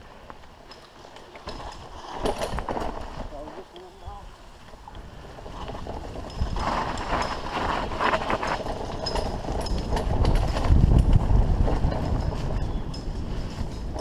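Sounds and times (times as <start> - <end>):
bike rattling and knocking: 0.2 - 4.0, 4.6 - 14.0.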